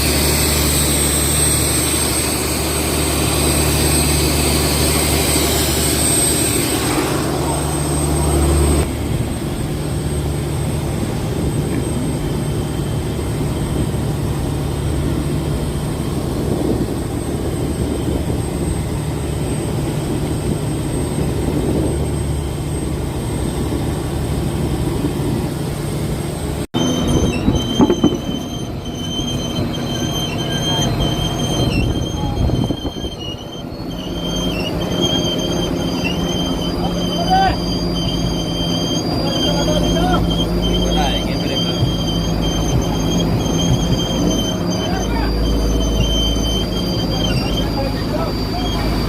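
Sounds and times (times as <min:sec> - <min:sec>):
high wavering squeal: 0:00.0 - 0:24.0, 0:26.5 - 0:49.0
boat engine droning: 0:00.0 - 0:49.0.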